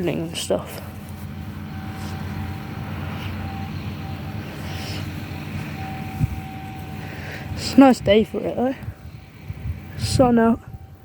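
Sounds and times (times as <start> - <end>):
farm machinery engine running: 0.0 - 11.0
thin steady whine: 0.0 - 11.0.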